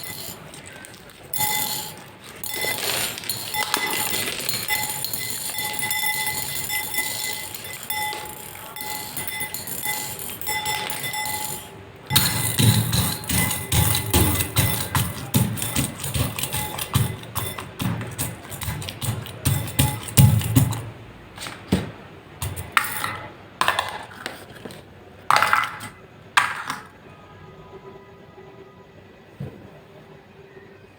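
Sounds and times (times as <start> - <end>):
faint high hum: 0.0 - 30.9.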